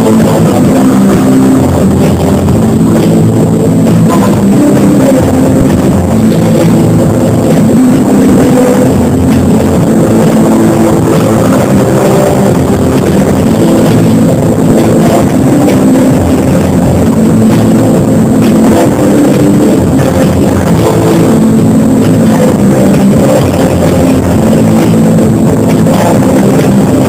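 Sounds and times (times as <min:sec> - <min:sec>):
drums: 0:00.0 - 0:27.0
electric guitar: 0:00.0 - 0:27.0.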